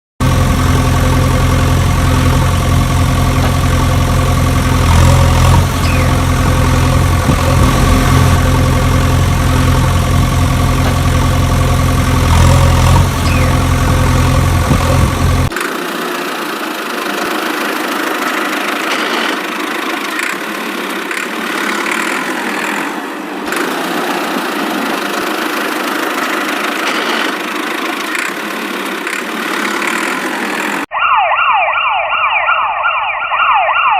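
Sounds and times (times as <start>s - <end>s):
tractor engine idling: 0.2s - 30.9s.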